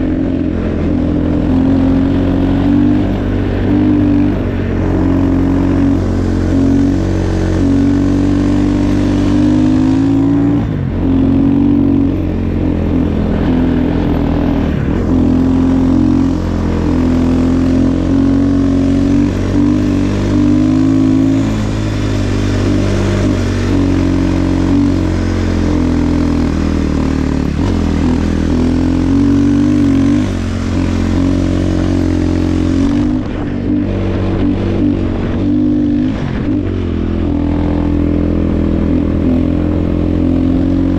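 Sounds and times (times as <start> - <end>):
snow bike engine running: 0.0 - 40.9.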